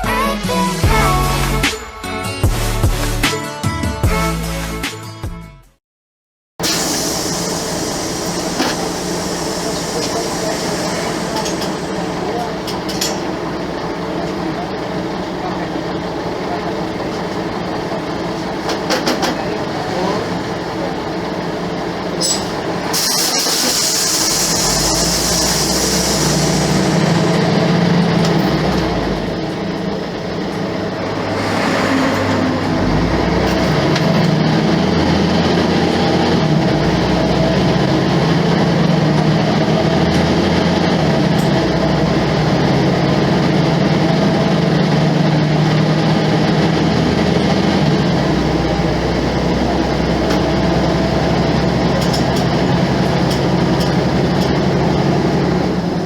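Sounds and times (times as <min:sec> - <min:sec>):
bus diesel engine running: 0:06.6 - 0:56.0.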